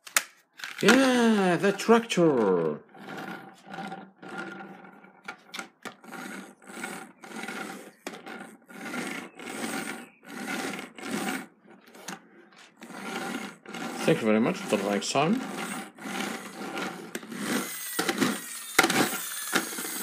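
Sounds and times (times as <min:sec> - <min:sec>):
plastic toy wheels rolling: 0:00.1 - 0:20.0.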